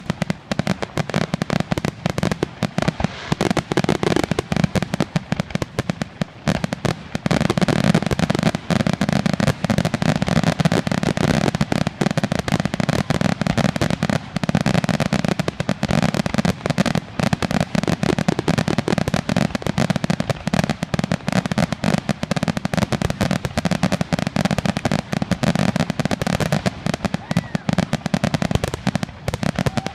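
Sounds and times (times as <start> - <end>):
fireworks barrage of bangs: 0.0 - 29.9.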